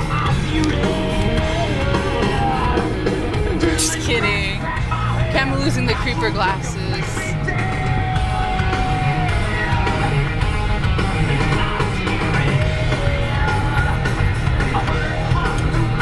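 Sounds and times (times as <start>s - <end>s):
hard rock music on car stereo: 0.0s - 16.0s.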